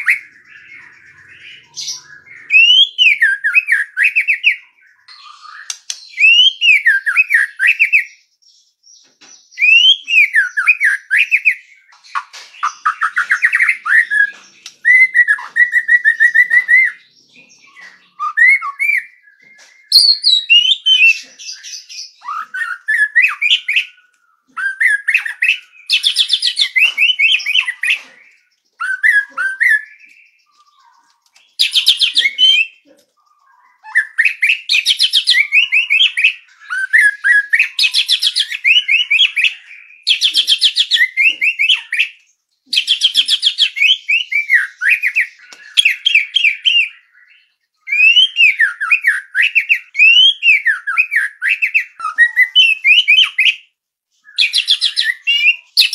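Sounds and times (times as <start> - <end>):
bird singing whistled phrases: 0.0 - 8.3, 8.9 - 55.9.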